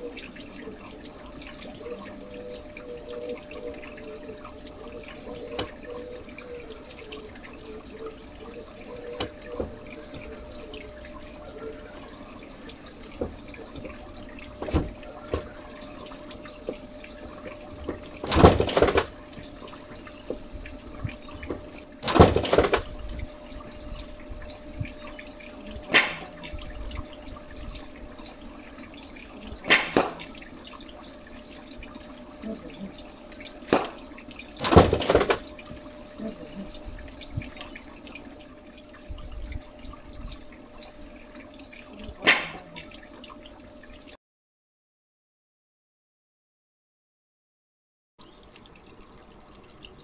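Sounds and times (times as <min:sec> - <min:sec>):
faint steady hum: 0:00.0 - 0:44.2
pond water trickling: 0:00.0 - 0:44.2, 0:48.2 - 0:50.0.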